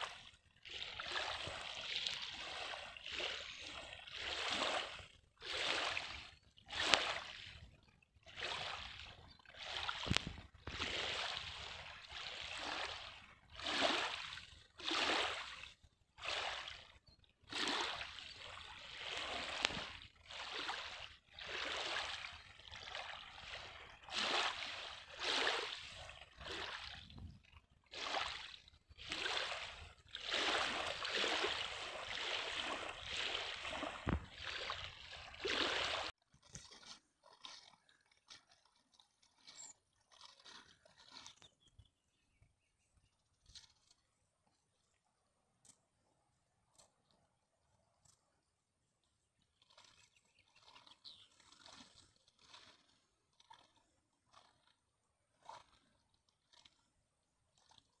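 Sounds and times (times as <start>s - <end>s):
small waves lapping at shore: 0.0s - 42.3s, 49.4s - 58.0s.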